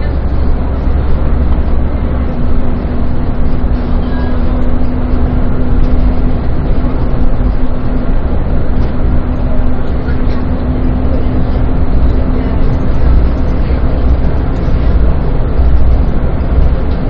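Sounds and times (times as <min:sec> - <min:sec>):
bus engine and road noise: 0:00.0 - 0:17.0
low steady hum: 0:00.0 - 0:17.0.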